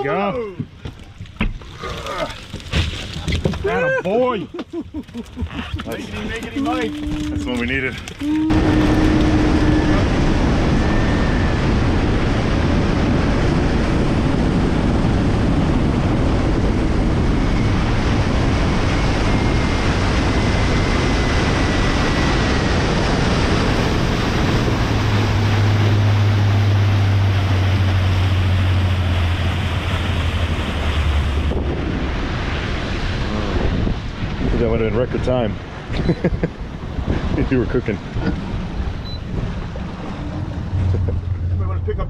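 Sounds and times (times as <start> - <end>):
water rushing past hull: 0.0 - 42.0
low engine hum: 4.7 - 42.0
wind buffeting microphone: 5.0 - 42.0.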